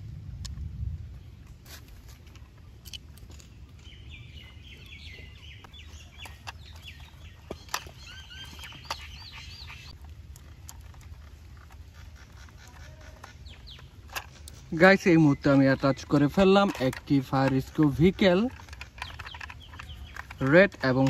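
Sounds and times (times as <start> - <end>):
low steady rumble: 0.0 - 21.0
birds chirping: 2.4 - 21.0.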